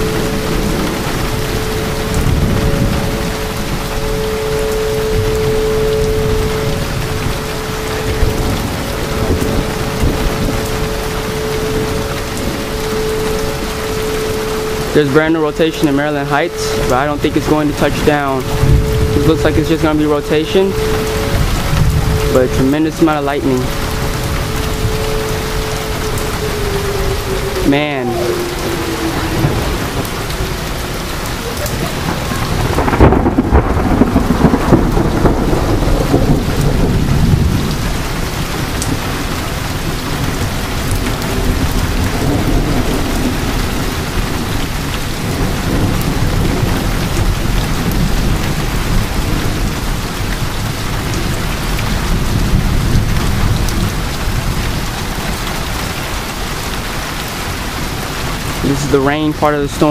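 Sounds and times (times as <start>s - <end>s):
heavy rain pouring: 0.0s - 59.9s
thunder rumbling: 0.0s - 59.9s.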